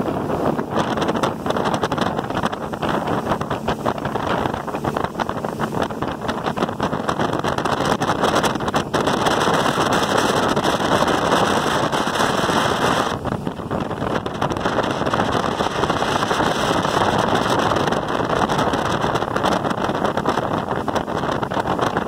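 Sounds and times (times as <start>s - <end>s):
churning wake: 0.0s - 22.0s
motorboat engine: 0.0s - 22.0s
wind buffeting microphone: 0.0s - 22.0s.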